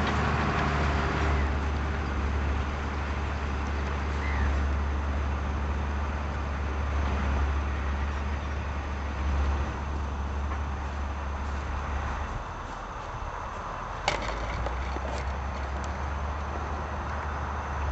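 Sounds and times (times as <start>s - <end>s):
tractor engine running: 0.0s - 17.9s.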